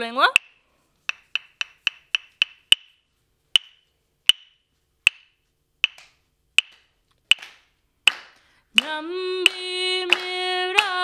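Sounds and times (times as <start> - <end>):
wooden clapsticks striking: 0.3 - 3.0, 3.6 - 10.9.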